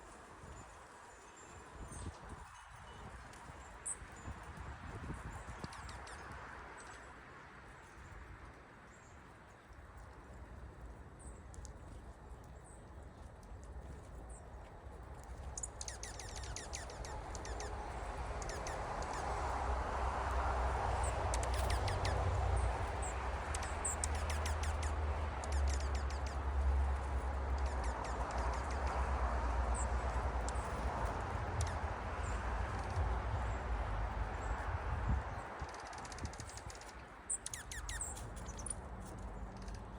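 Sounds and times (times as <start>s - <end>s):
small birds chirping: 0.6s - 7.0s, 8.9s - 19.6s, 20.3s - 39.9s.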